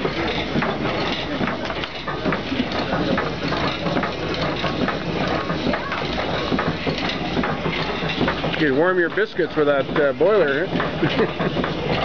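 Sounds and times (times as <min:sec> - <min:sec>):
steam engine clattering: 0:00.0 - 0:12.0.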